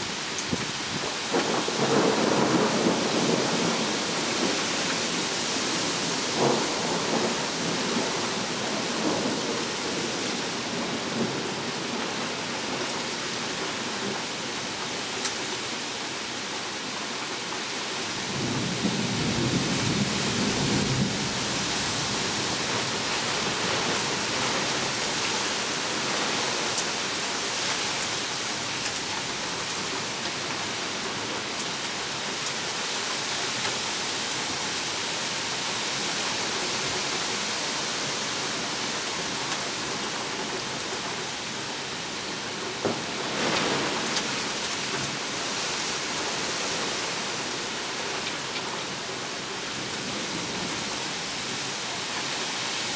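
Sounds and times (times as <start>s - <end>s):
steady rain hissing: 0.0s - 52.9s.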